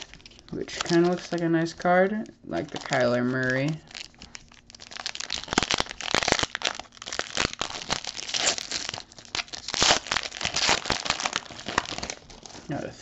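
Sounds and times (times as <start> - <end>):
wrapper tearing and crinkling: 0.0 - 1.8, 2.6 - 12.9.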